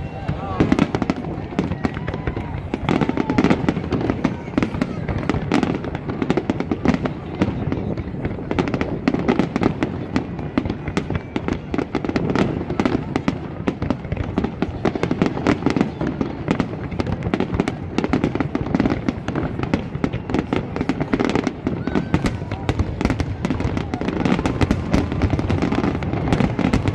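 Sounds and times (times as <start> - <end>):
deep rumble of fireworks booms: 0.0 - 26.9
fireworks bangs and crackles: 0.0 - 26.9.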